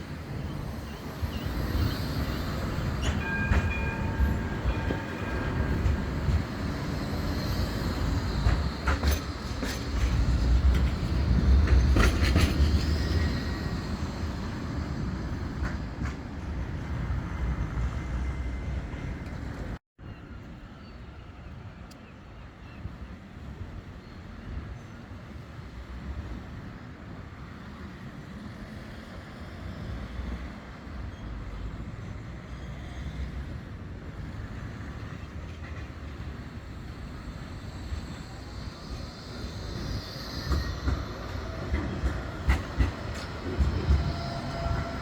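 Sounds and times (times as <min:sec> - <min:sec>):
tram rumbling past: 0:00.0 - 0:19.8, 0:25.6 - 0:45.0.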